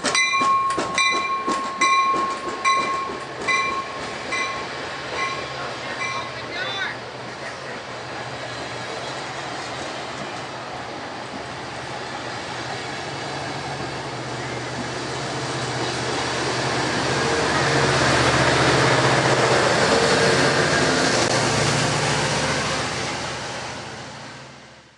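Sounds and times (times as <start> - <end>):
diesel locomotive engine hum: 0.0 - 24.9
train cars rumbling past: 0.0 - 24.9.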